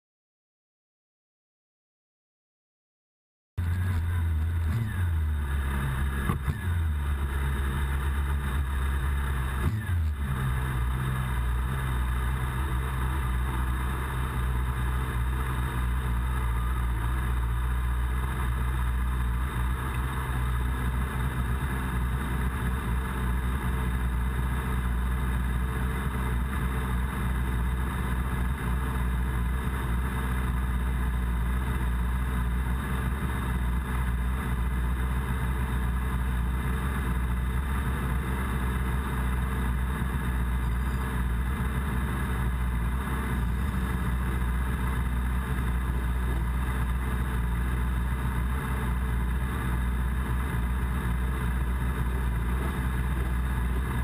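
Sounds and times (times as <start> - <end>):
motorcycle engine idling: 3.6 - 54.0.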